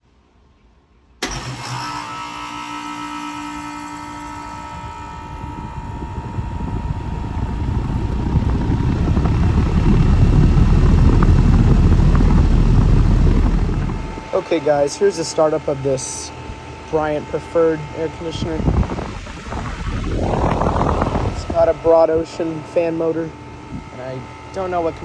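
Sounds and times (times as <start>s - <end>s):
compressor humming: 1.2s - 25.0s
condenser fan rushing air: 1.2s - 25.0s.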